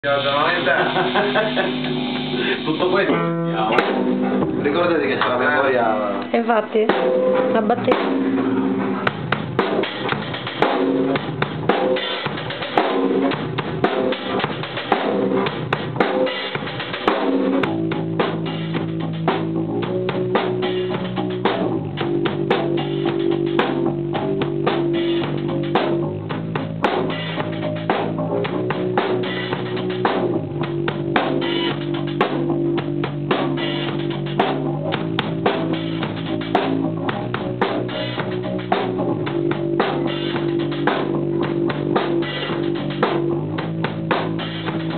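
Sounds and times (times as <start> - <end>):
bass and guitar held notes: 0.0 - 44.9
drum kit playing: 0.0 - 44.9.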